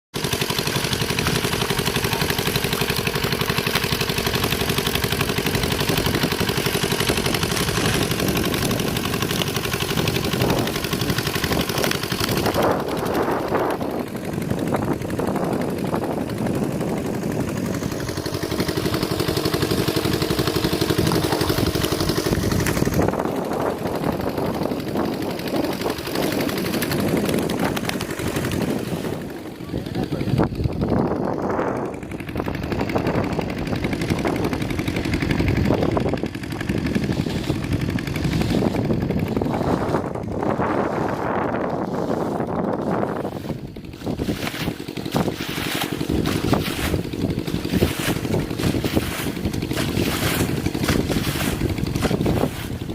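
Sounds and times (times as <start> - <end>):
small engine chugging: 0.2 - 52.9.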